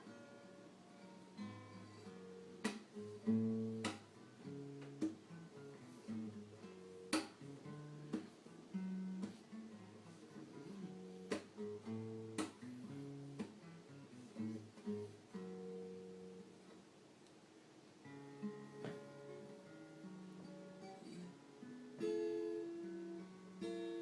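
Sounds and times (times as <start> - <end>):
acoustic guitar playing: 0.0 - 17.1, 17.8 - 24.0.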